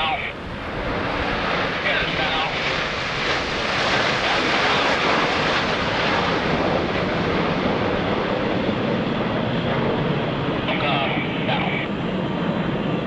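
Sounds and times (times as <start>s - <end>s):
jet planes roaring overhead: 0.0s - 13.0s.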